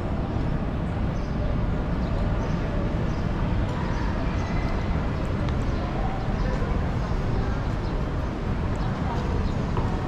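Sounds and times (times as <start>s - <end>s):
steady low city rumble: 0.0s - 10.0s.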